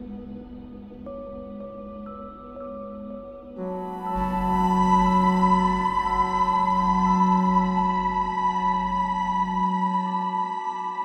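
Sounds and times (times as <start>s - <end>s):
ambient synthesizer drone: 0.0s - 11.0s.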